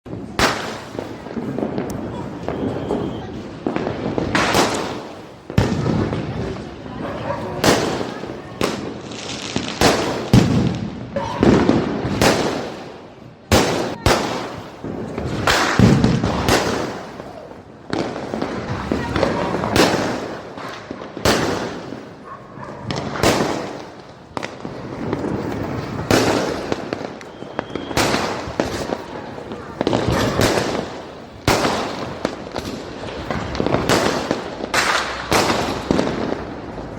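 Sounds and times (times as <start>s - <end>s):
firecrackers banging: 0.1s - 36.9s.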